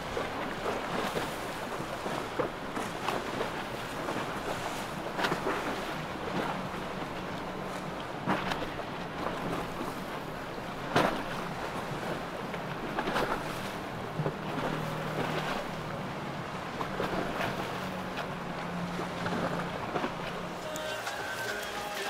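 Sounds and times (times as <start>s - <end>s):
motorboat engine humming: 0.0s - 22.0s
rushing water: 0.0s - 22.0s.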